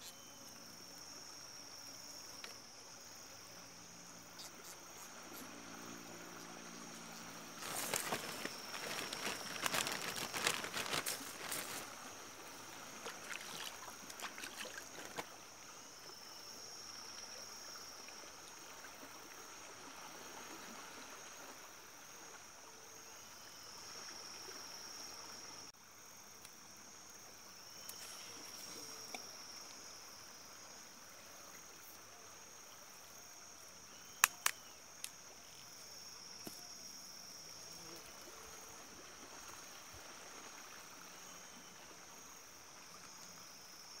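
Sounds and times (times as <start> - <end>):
high insect drone: 0.0 - 44.0.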